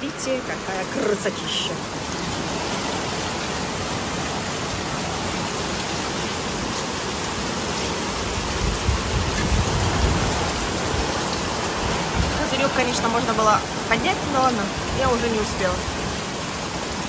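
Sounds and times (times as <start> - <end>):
heavy rain on metal roof: 0.0 - 17.0.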